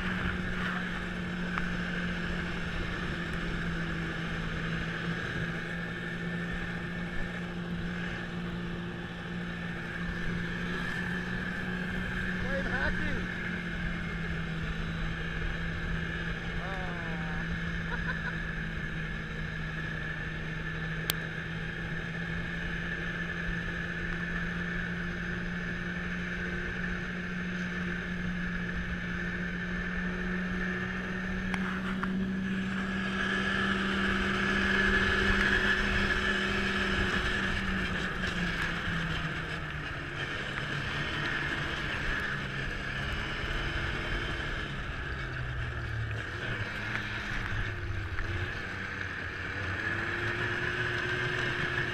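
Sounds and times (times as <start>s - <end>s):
snowmobile engine running: 0.0s - 51.9s.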